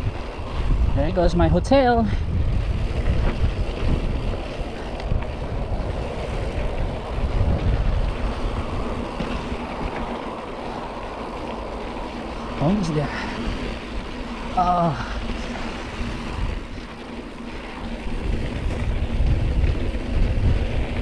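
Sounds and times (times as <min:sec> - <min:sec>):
bike tyres rolling on dirt: 0:00.0 - 0:21.0
wind buffeting microphone: 0:00.0 - 0:21.0.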